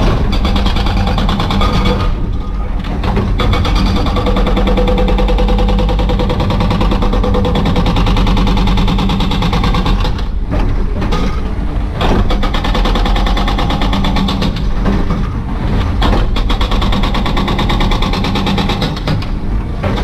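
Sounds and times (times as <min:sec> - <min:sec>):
hydraulic breaker hammering concrete: 0:00.0 - 0:20.0.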